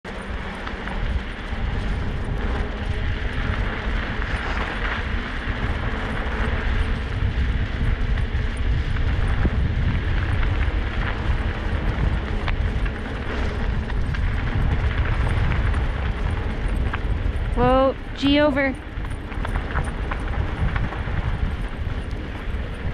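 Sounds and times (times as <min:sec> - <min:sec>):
scooter tyres rolling on snow: 0:00.0 - 0:22.9
wind rumble on microphone: 0:00.0 - 0:22.9.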